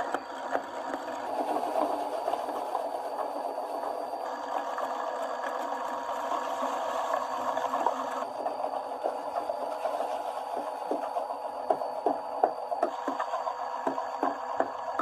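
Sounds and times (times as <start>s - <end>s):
meat grinder motor whirring: 0.0s - 15.0s.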